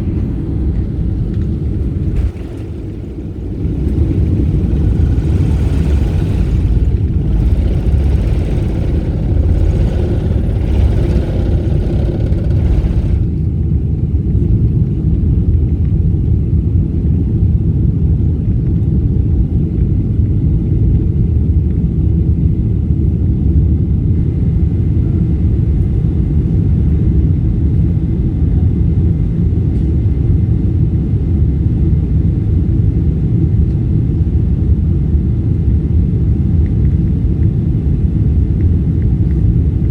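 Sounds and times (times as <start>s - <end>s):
aircraft cabin rumble: 0.0s - 16.5s, 24.0s - 39.9s.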